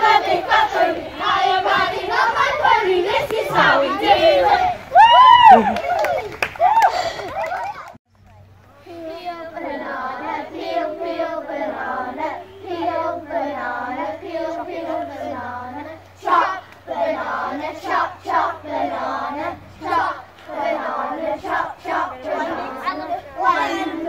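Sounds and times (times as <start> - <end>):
young children singing: 0.0 - 5.0, 8.8 - 24.0.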